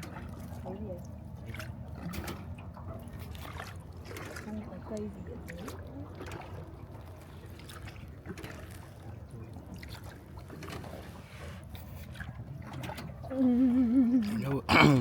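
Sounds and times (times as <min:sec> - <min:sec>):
oars dipping in water: 0:00.0 - 0:15.0
water trickling and splashing: 0:00.0 - 0:15.0.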